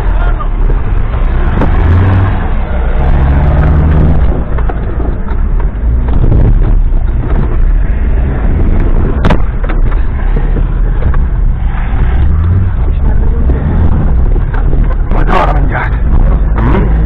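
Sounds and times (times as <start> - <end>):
vehicle engine under load: 0.0 - 17.0.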